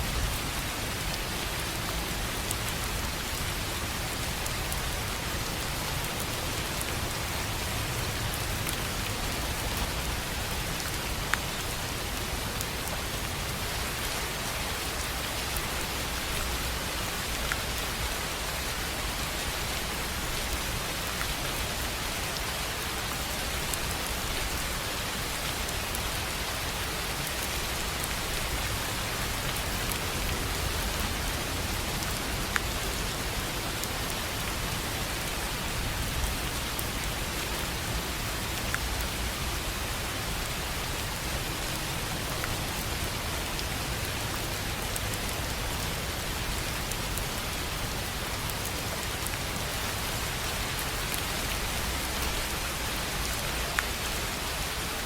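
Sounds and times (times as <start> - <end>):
rain pattering on a tin roof: 0.0 - 55.0.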